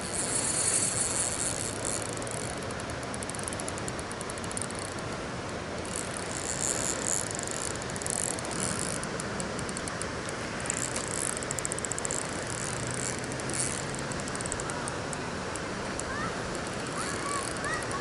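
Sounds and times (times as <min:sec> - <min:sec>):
fishing reel clicking: 0:00.0 - 0:18.0.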